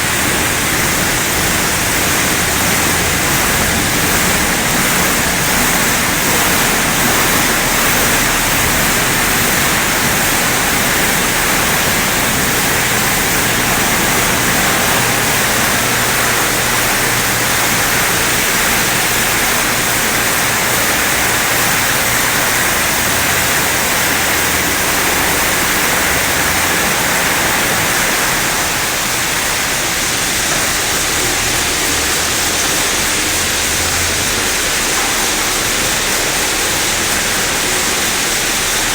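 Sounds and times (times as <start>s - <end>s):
high-pressure water spray: 0.0s - 38.9s
low machine hum: 0.0s - 38.9s.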